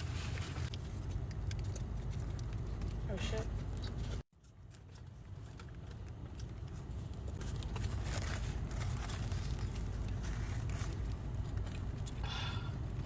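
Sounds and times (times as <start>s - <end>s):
burger wrapper crinkling: 0.0s - 13.0s
steady low hum: 0.0s - 13.0s
chewing: 0.6s - 13.0s.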